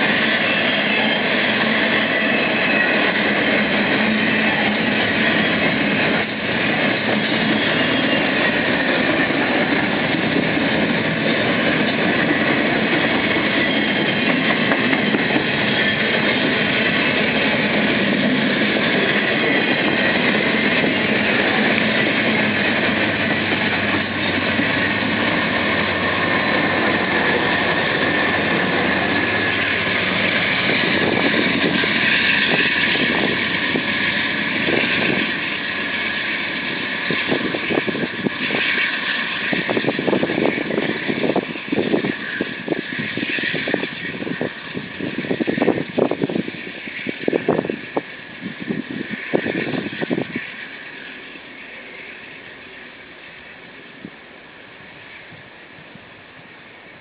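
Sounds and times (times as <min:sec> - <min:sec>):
train wheels rolling on rail: 0:00.0 - 0:57.0.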